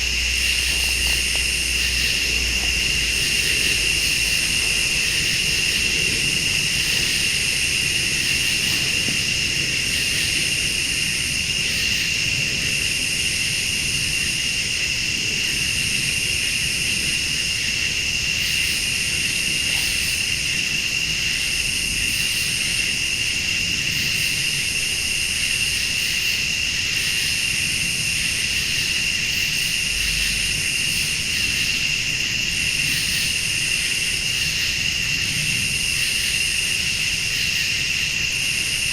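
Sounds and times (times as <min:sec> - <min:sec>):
pulsing insect chorus: 0:00.0 - 0:38.9
steady high insect trill: 0:00.0 - 0:38.9.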